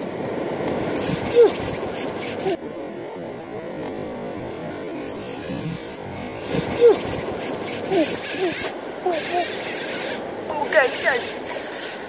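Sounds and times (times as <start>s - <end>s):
wind noise: 0.0s - 2.6s, 3.4s - 11.9s.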